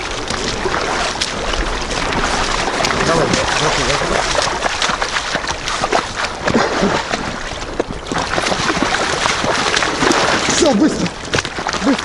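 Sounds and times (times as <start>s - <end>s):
water splashing in shallows: 0.0s - 12.0s.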